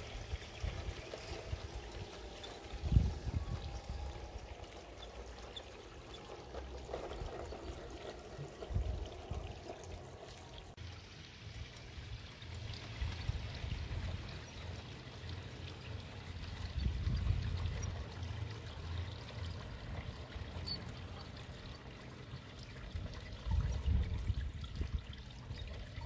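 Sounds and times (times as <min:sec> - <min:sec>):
model train rumbling on track: 0:00.0 - 0:10.8, 0:11.5 - 0:23.1
water trickling and pouring: 0:00.0 - 0:26.0.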